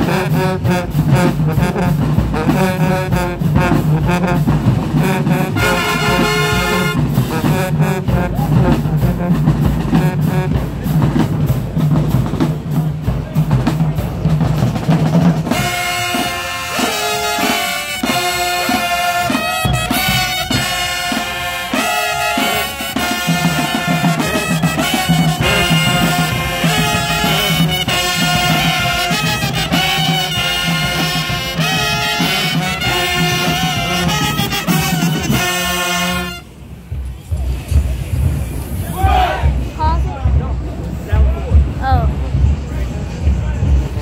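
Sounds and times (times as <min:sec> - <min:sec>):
marching band playing: 0:00.0 - 0:44.0.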